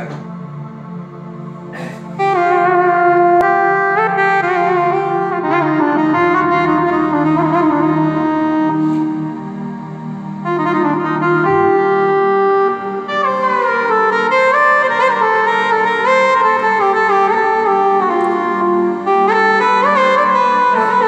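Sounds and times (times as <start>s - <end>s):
keyboard melody with pitch slides: 0.0s - 21.0s
low drone: 0.0s - 21.0s.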